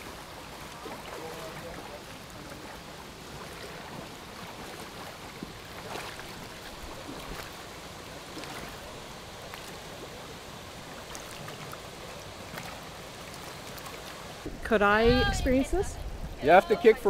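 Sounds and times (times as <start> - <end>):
splashing: 0.0 - 17.0
stream running: 0.0 - 17.0.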